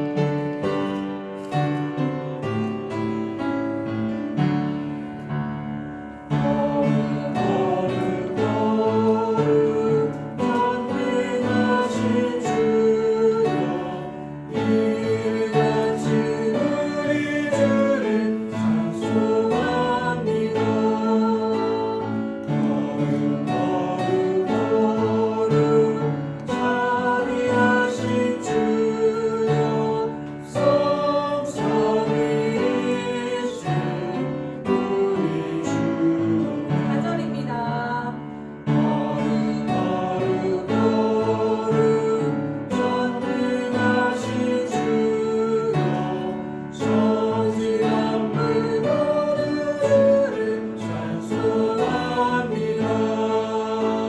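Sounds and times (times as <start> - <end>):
congregation singing a hymn: 0.0 - 54.0
instrumental accompaniment: 0.0 - 54.0.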